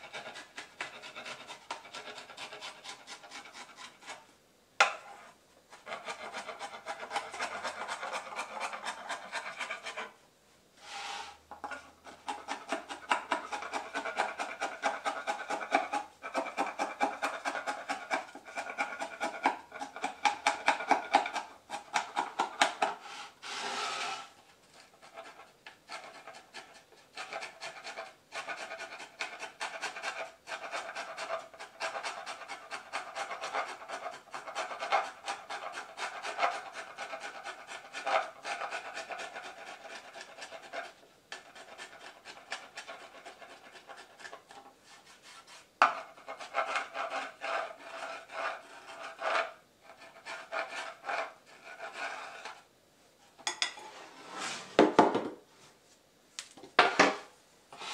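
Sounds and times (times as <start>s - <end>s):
file scraping plastic board: 0.0s - 10.2s, 10.8s - 52.7s, 56.8s - 57.9s.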